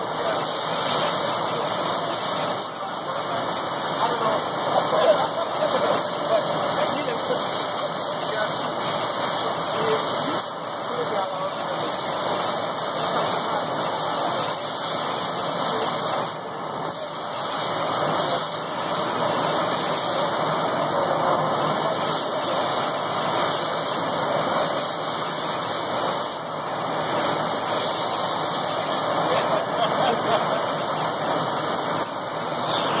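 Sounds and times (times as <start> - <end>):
laser cutter hissing: 0.0 - 33.0.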